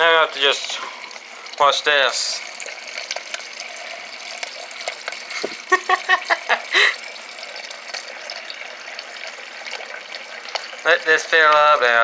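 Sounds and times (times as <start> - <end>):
short pitched water spurts: 0.0 - 12.0
water stream into container: 0.0 - 12.0.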